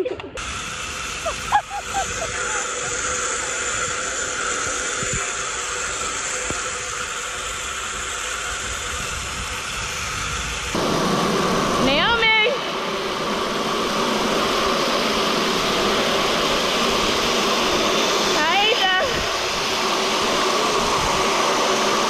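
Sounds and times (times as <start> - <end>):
wind: 0.0 - 22.0
zip-line trolley running along cable: 0.0 - 22.0.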